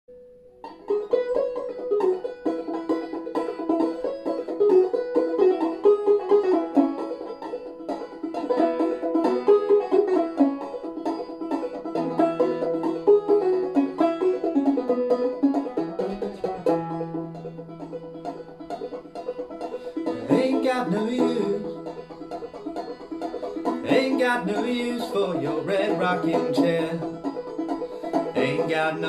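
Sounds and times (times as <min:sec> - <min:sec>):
banjo picking and strumming: 0:00.1 - 0:29.0.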